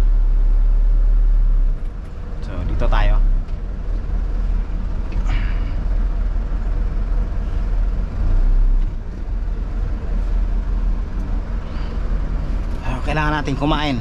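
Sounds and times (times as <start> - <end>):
truck diesel engine from cab: 0.0 - 14.0.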